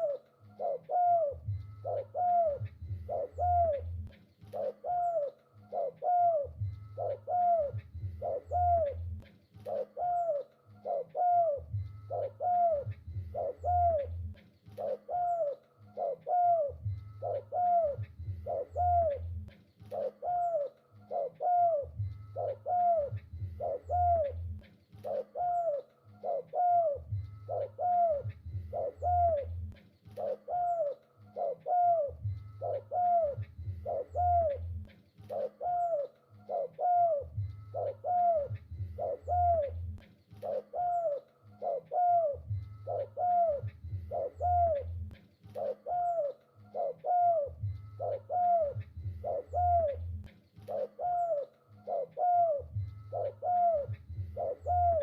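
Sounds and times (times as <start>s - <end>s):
low hum: 0.0s - 4.7s, 5.6s - 9.8s, 10.4s - 20.2s, 20.8s - 25.2s, 26.1s - 30.3s, 31.1s - 45.7s, 46.4s - 50.8s, 51.6s - 55.0s
dove cooing: 0.0s - 55.0s.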